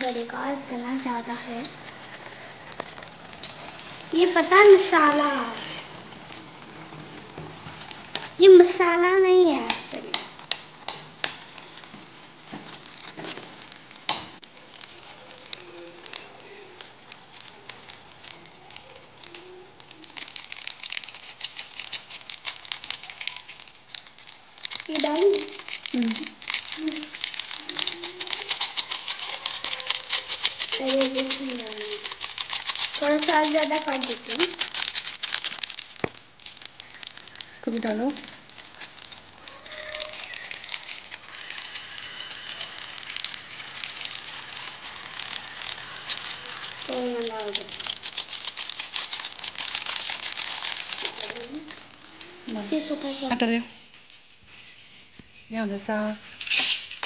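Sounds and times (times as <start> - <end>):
seasoning sachet crinkling: 0.0 - 53.6.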